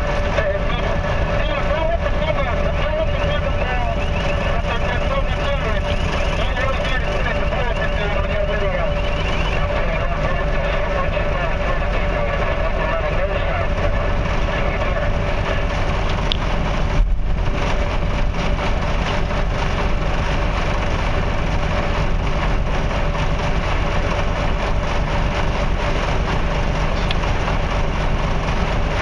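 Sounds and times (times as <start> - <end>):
diesel engine running: 0.0 - 29.0
mid-pitched whine: 0.0 - 29.0.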